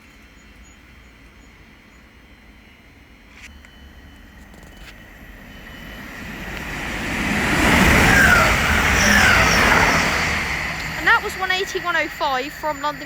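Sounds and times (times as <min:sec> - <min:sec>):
diesel train rushing past: 0:00.2 - 0:13.0.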